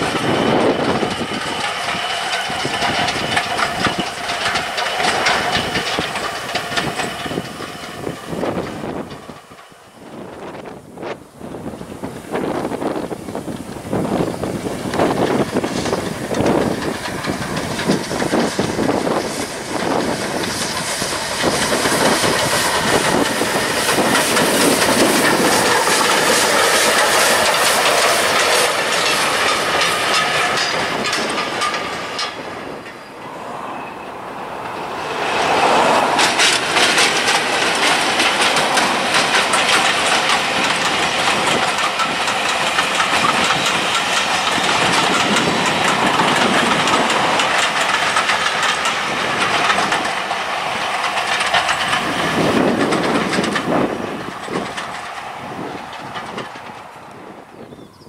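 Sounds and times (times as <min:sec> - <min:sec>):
diesel locomotive passing: 0:00.0 - 0:58.0
steam locomotive passing: 0:00.0 - 0:58.0
wheels clattering over rail joints: 0:00.0 - 0:58.0.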